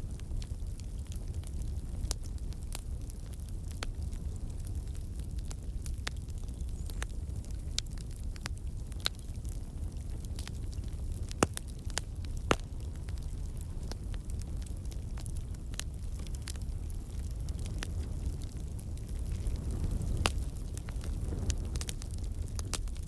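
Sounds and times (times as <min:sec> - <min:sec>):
campfire flames rumbling: 0:00.0 - 0:23.0
wood crackling and popping: 0:00.0 - 0:23.0.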